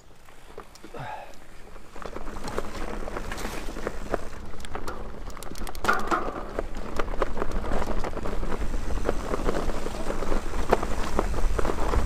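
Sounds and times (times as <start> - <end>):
bike rattling over bumps: 0.0 - 12.0
wind rumble on microphone: 1.6 - 12.0.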